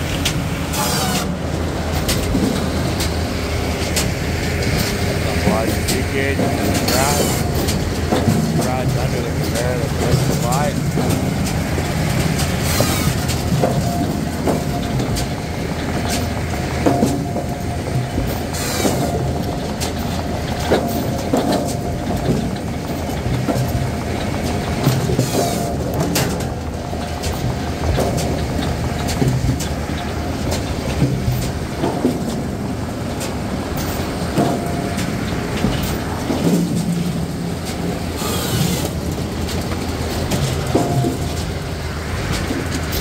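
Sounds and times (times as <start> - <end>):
firewood clattering on steel chute: 0.0 - 43.0
firewood processor running: 0.0 - 43.0.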